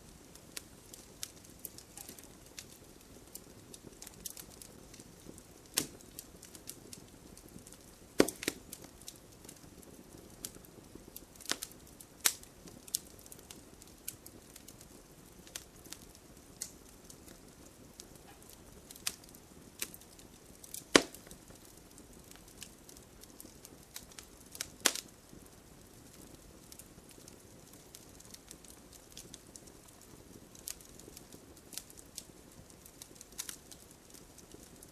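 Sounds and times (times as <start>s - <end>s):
soft fire hiss: 0.0s - 34.9s
wood crackling and popping: 0.0s - 34.9s.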